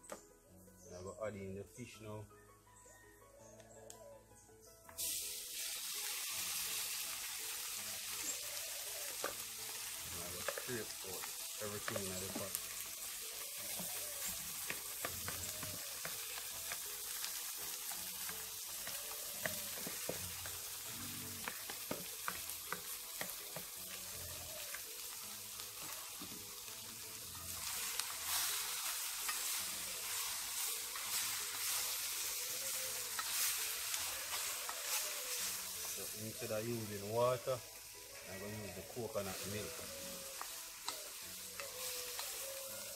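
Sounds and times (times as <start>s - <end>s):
fish sizzling in oil: 5.0s - 42.9s.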